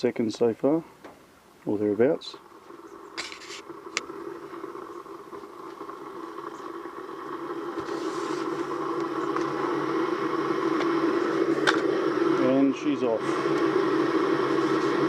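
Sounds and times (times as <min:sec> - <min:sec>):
electric kettle heating water: 0:01.6 - 0:15.0.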